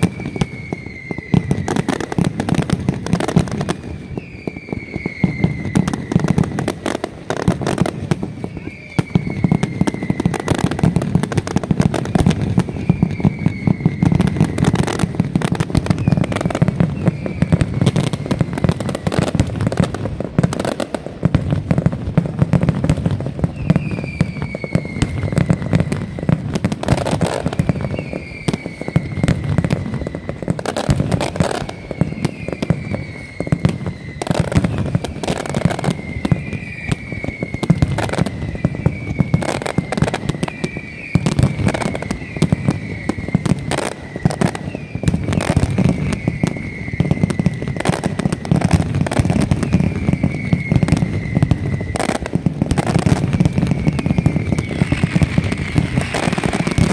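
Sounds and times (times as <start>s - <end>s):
falling whistles: 0.0s - 19.4s, 23.4s - 56.9s
firecracker bangs and crackle: 0.0s - 56.9s.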